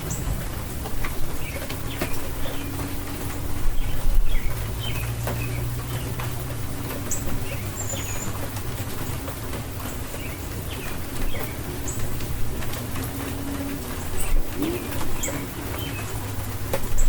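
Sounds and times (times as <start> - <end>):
small birds chirping: 0.0 - 17.0
steady rain with drips: 0.0 - 17.0.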